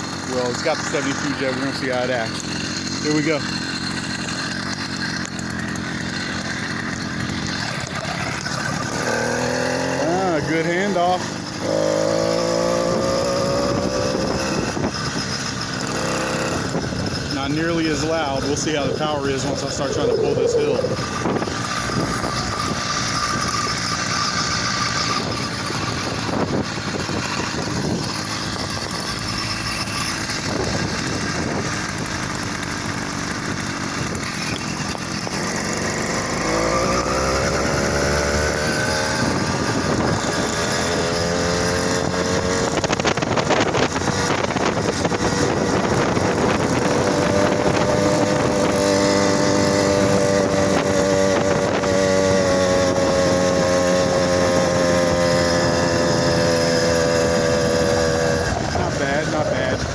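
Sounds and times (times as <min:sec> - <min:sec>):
two-stroke engine under load: 0:00.0 - 0:59.9.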